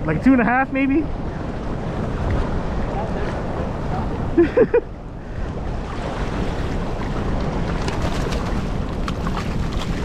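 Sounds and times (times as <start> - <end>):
moving water: 0.0 - 10.0
wind rumbling on microphone: 0.0 - 10.0.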